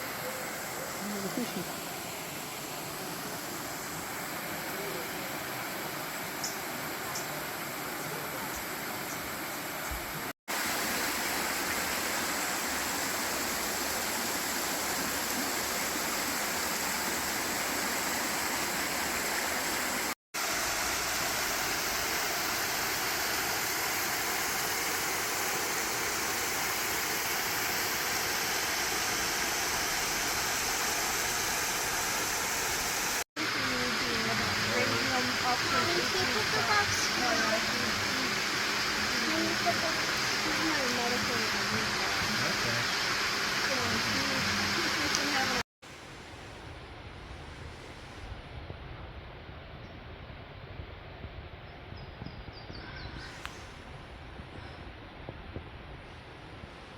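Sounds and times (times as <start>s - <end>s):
rushing water: 0.0s - 48.4s.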